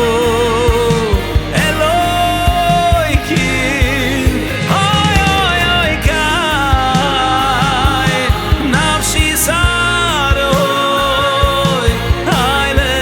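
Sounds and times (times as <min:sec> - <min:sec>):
pop-rock song: 0:00.0 - 0:13.0.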